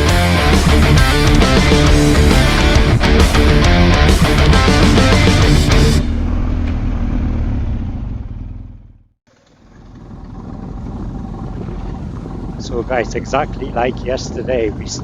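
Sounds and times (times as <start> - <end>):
motorcycle engine rumble: 0.0 - 15.0
road noise: 0.0 - 15.0.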